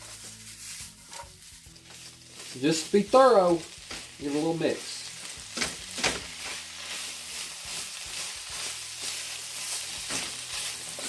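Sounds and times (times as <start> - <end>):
meat sizzling in a hot pan: 0.0 - 11.0.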